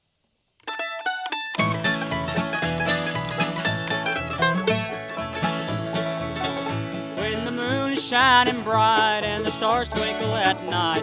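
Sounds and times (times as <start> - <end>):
bluegrass string band music: 0.7 - 11.0.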